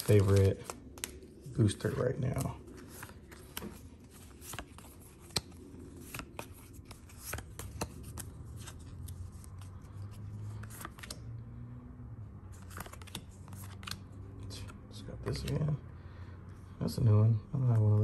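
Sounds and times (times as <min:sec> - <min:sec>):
trading cards snapping and rustling: 0:00.0 - 0:11.3, 0:12.5 - 0:15.7.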